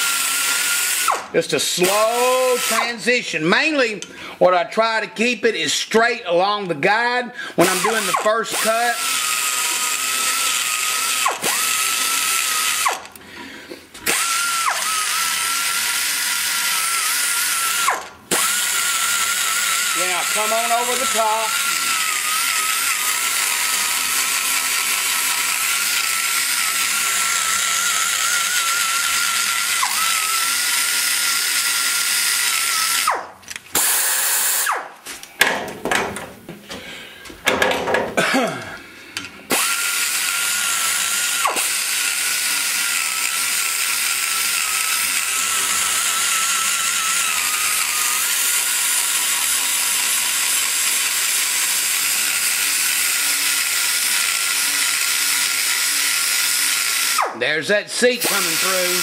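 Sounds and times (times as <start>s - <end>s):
die grinder whining: 0.0s - 3.1s, 7.4s - 34.9s, 38.5s - 59.0s.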